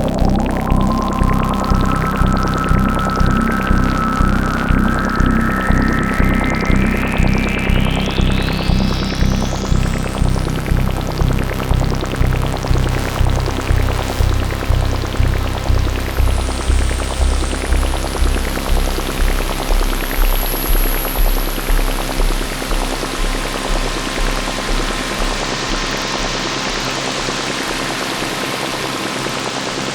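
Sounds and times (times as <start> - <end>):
low bass synth pulse: 0.0 - 29.6.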